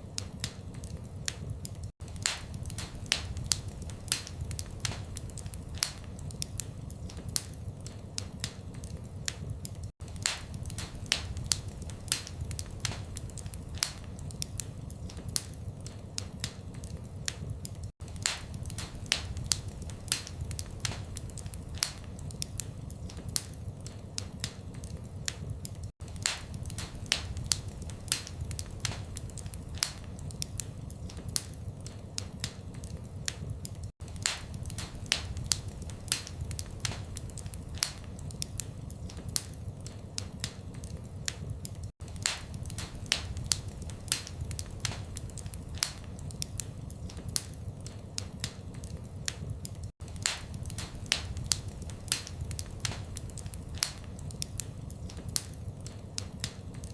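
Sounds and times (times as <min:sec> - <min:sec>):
low rumble of flame: 0:00.0 - 0:56.9
wood fire crackling and popping: 0:00.0 - 0:56.9.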